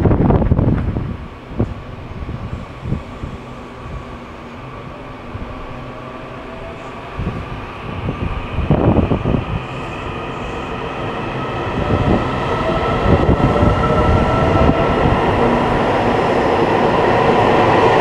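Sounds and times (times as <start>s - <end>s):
electric train humming and whining: 0.0s - 18.0s.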